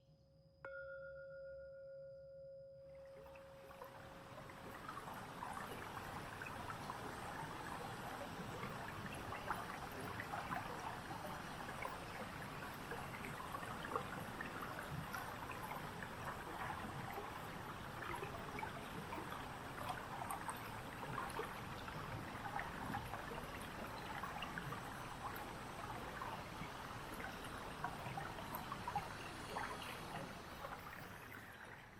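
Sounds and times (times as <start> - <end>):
stream water trickling: 3.0 - 31.9.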